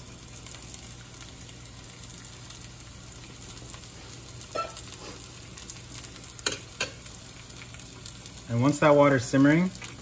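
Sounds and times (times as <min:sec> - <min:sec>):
patties sizzling in oil: 0:00.0 - 0:10.0.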